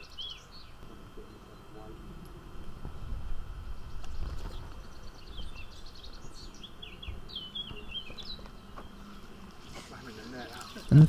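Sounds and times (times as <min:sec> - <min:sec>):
small bird chirping: 0:00.0 - 0:01.8, 0:03.8 - 0:11.0
low outdoor rumble: 0:00.0 - 0:11.0.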